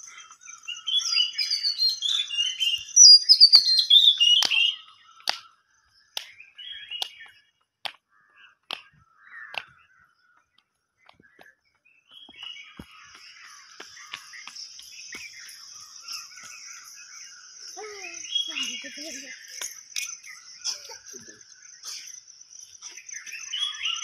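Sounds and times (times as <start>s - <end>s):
birds singing: 0.0s - 24.0s.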